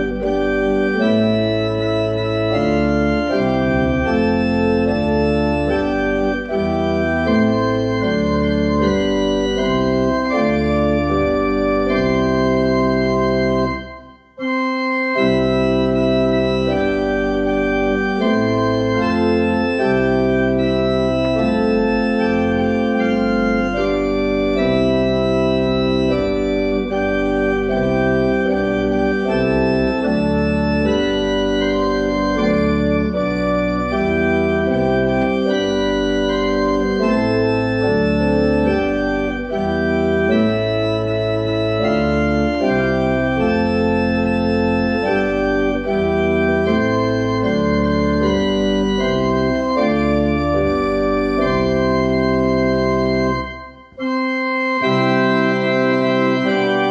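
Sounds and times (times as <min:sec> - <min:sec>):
church organ playing a hymn: 0:00.0 - 0:56.9.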